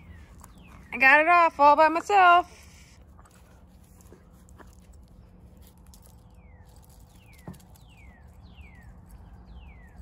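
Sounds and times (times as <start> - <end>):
faint low outdoor rumble: 0.0 - 10.0.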